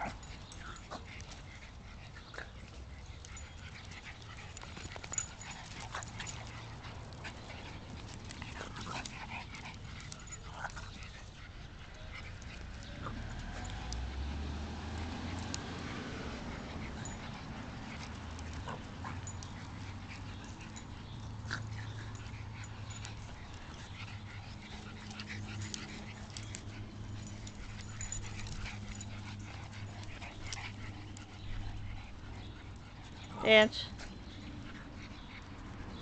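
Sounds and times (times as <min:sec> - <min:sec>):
small dogs playing: 0:00.0 - 0:36.0.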